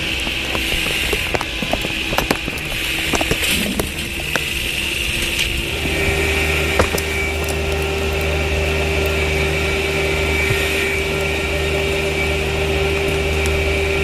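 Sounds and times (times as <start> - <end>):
machine engine whine: 0.0 - 14.0.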